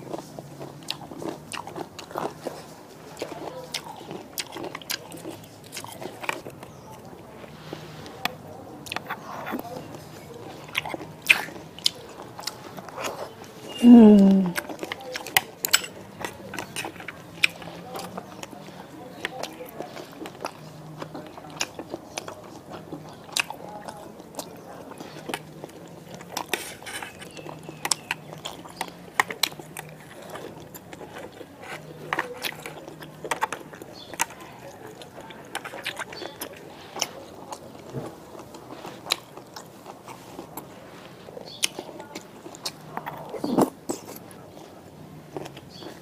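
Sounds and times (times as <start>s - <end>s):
person chewing and crunching: 0.0s - 46.0s.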